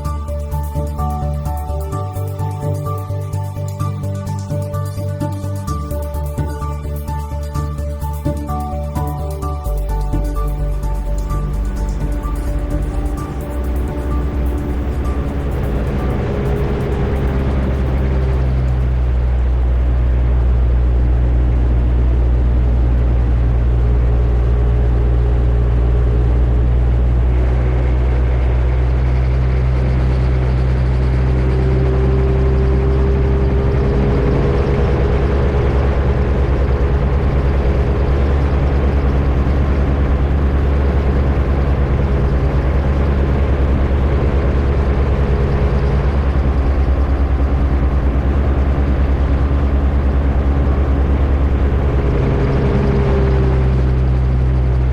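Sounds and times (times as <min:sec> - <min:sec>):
two-stroke engine and propeller: 0:00.0 - 0:54.9.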